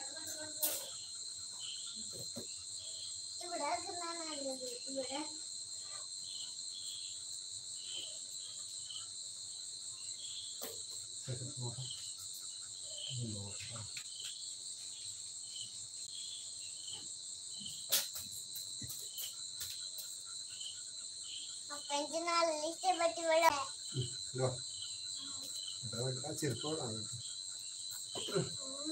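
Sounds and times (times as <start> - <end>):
high-pitched insect chorus: 0.0 - 28.9.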